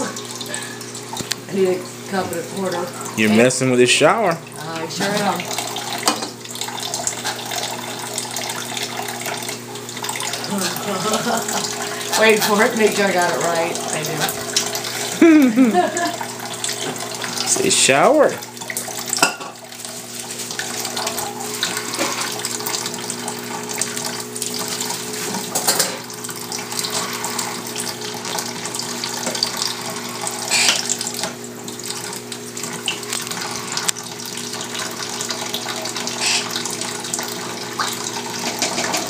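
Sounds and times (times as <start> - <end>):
tap water running: 0.0 - 39.0.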